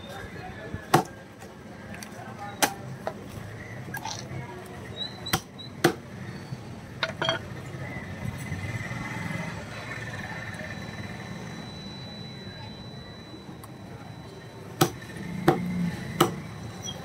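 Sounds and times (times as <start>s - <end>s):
low background murmur: 0.0s - 17.0s.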